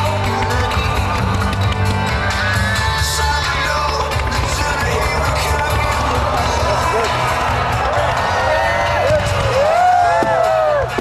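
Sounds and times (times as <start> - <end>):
crowd cheering and calling out: 0.0 - 11.0
music playing: 0.0 - 11.0.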